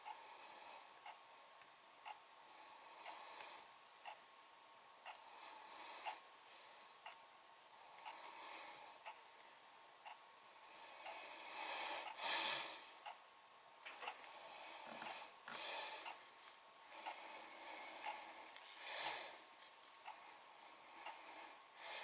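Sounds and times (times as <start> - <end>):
breathy nasal breaths: 0.0 - 4.2, 5.0 - 13.2, 13.9 - 22.0.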